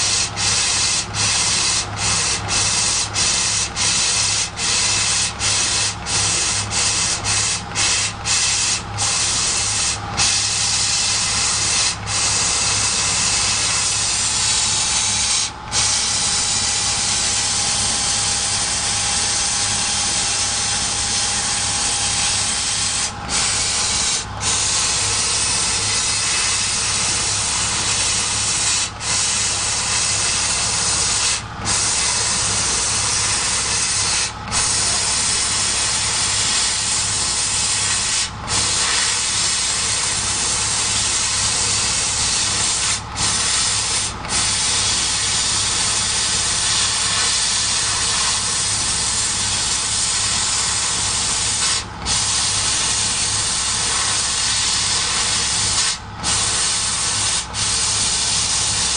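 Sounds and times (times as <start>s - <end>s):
laser cutter hissing: 0.0s - 58.9s.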